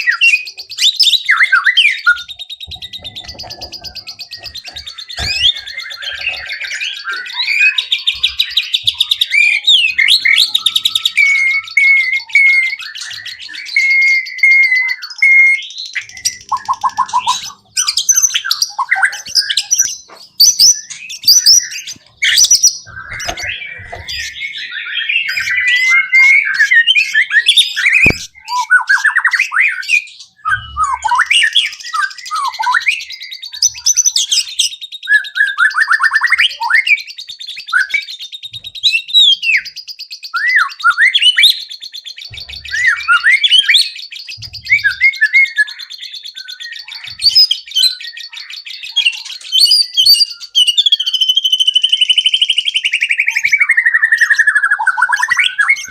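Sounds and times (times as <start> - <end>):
bird singing whistled phrases: 0.0 - 55.9.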